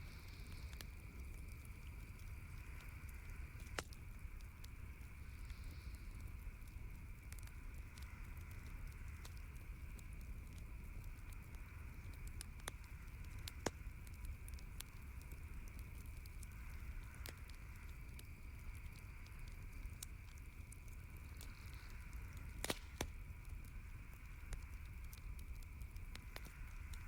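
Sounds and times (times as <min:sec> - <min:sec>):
campfire crackling and popping: 0:00.0 - 0:27.0
steady background hiss: 0:00.0 - 0:27.0.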